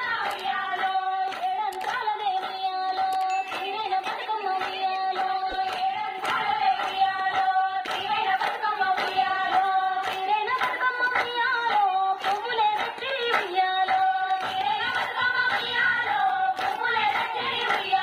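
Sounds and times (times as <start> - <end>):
rhythmic hand clapping: 0.0 - 18.0
women singing folk song: 0.0 - 18.0.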